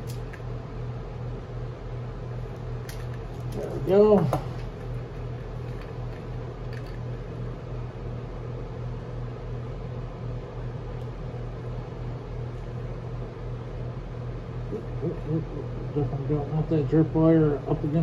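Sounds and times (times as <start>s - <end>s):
machine hum with low pulsing: 0.0s - 18.0s.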